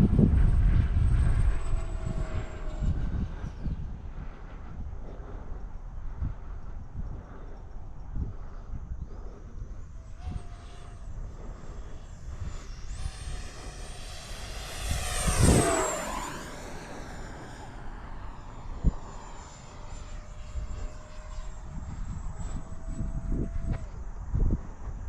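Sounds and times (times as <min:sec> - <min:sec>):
low rumble: 0:00.0 - 0:24.8
model jet electric fan whine: 0:00.0 - 0:25.0.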